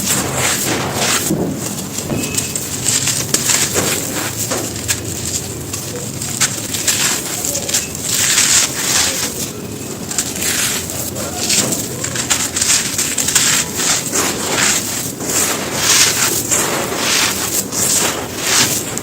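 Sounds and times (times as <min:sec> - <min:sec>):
stone-like material crunching: 0:00.0 - 0:19.0.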